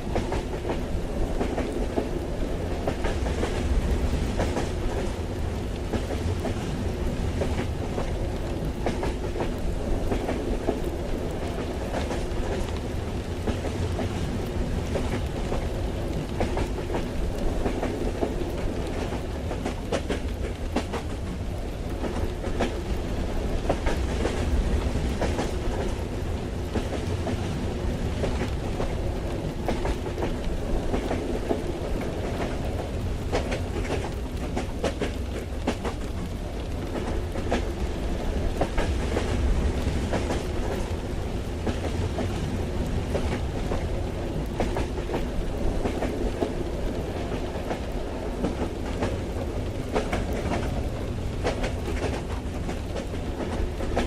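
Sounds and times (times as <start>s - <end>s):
rain: 0.0s - 54.0s
train low rumble and hum: 0.0s - 54.0s.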